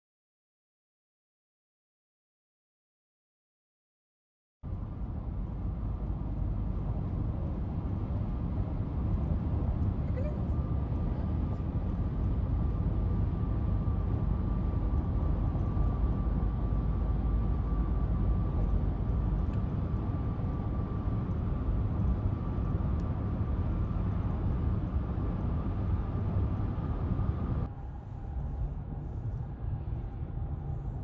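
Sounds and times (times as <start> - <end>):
car road and engine rumble: 4.7 - 31.0
thin steady whine: 5.0 - 31.0.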